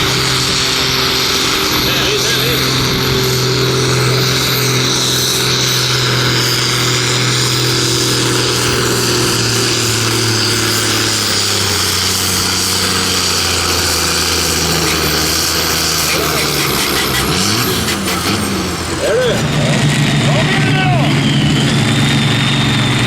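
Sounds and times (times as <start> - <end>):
tractor engine running loud: 0.0 - 23.0.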